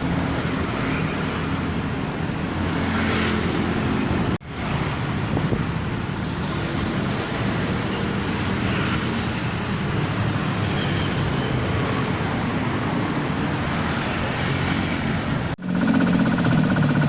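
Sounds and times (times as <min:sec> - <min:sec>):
air compressor motor hum: 0:00.0 - 0:04.4, 0:05.3 - 0:17.0
paint spray gun hissing: 0:00.0 - 0:04.4, 0:05.7 - 0:15.6.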